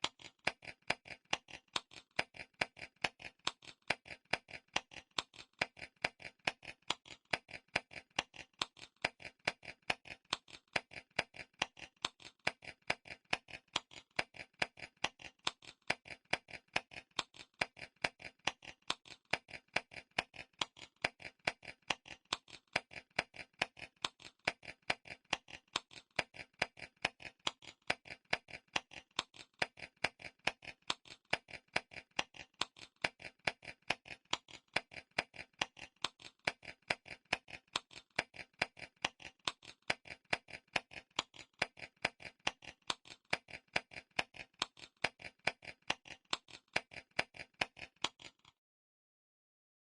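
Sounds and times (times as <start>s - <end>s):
clock timer ticking: 0.0s - 48.5s.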